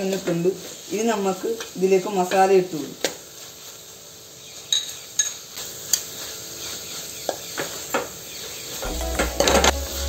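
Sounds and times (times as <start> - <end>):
faint sizzle: 0.0 - 10.0.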